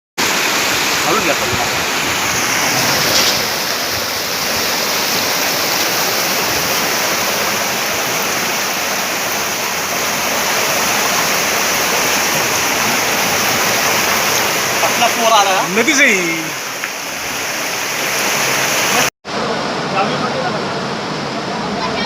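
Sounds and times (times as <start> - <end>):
floodwater rushing: 0.2 - 22.0.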